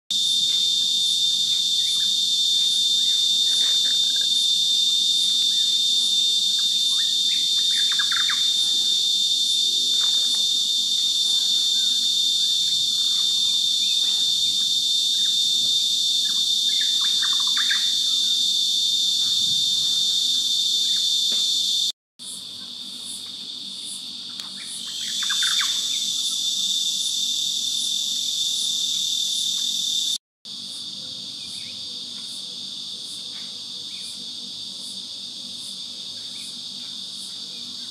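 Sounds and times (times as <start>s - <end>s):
insect chirps: 0.1s - 37.9s
insects buzzing: 0.1s - 37.9s.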